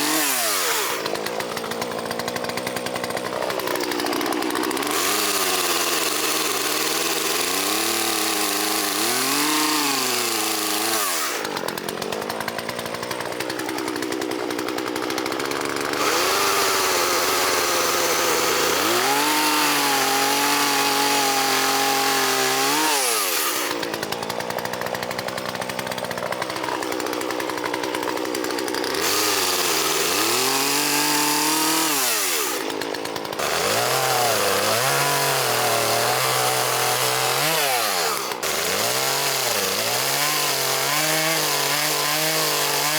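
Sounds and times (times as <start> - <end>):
chainsaw revving: 0.0 - 42.9.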